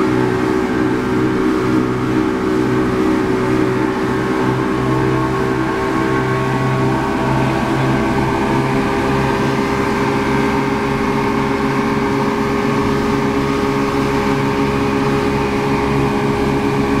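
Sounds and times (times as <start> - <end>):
churning wake rushing: 0.0 - 17.0
speedboat engine drone: 0.0 - 17.0.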